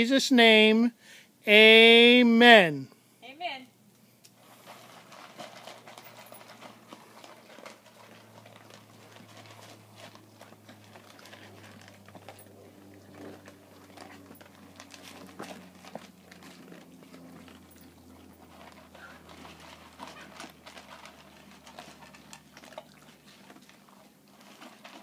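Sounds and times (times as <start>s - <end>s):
dogs crunching dry kibble: 4.3s - 25.0s.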